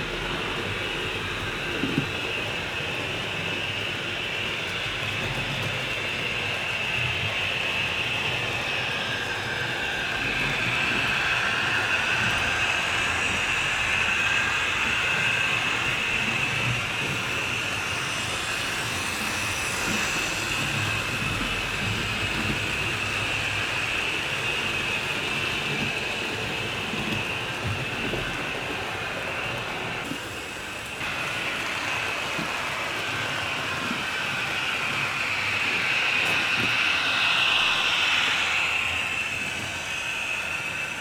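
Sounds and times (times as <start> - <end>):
model train motor whine: 0.0 - 41.0
wheels rolling on rails: 0.0 - 41.0.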